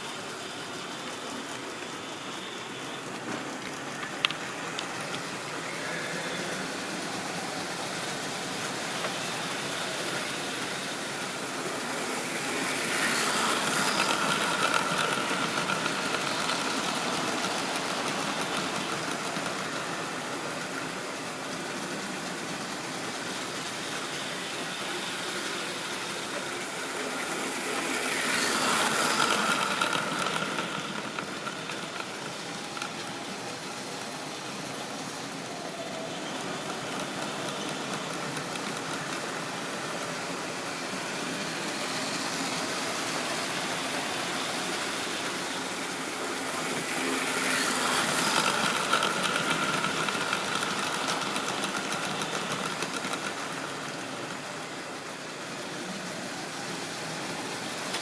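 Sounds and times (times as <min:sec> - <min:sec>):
model train wheels rattling on rail: 0:00.0 - 0:58.0
train whining: 0:00.0 - 0:58.0.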